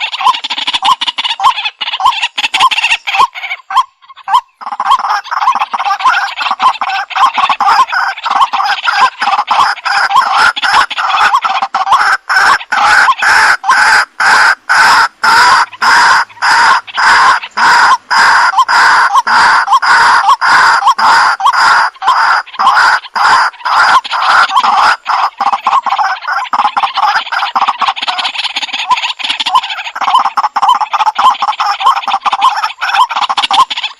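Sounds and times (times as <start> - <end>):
waterhen calling: 0.0 - 33.9.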